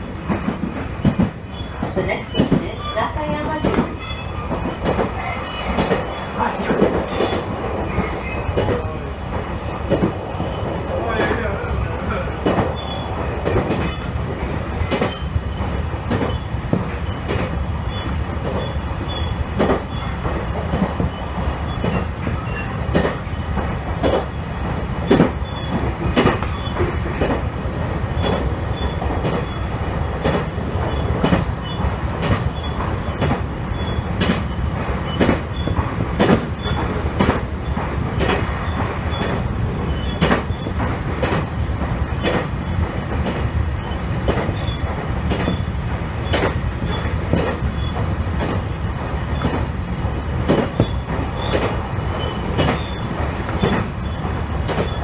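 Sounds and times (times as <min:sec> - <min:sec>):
clacks over rail joints: 0:00.0 - 0:55.0
train wheels rumbling on rail: 0:00.0 - 0:55.0.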